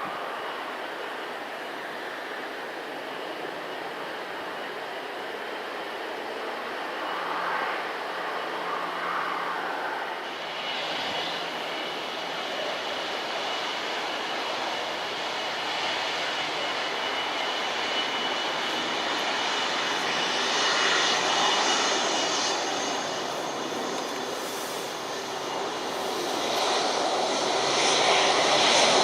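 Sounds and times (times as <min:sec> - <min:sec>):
airliner engines running: 0:00.0 - 0:29.0.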